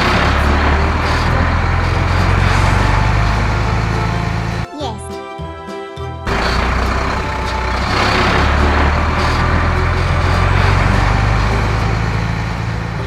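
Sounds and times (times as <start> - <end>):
heavy vehicle engine rumble: 0.0 - 4.7, 6.3 - 13.0
rushing noise: 0.0 - 4.7, 6.3 - 13.0.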